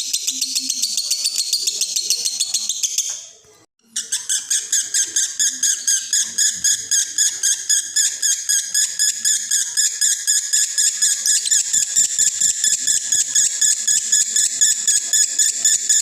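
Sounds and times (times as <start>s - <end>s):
lovebird chattering: 0.0s - 3.3s, 3.9s - 16.0s.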